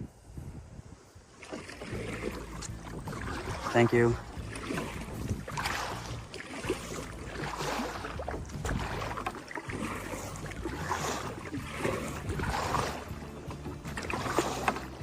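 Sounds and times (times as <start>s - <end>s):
wind on microphone: 0.0s - 15.0s
kayak paddle splashing water: 1.3s - 15.0s.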